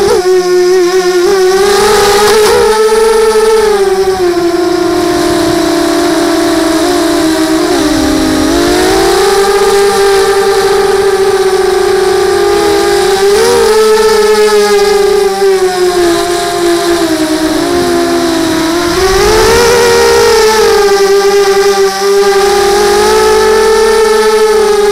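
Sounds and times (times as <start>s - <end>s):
drone motors whining: 0.0s - 24.9s.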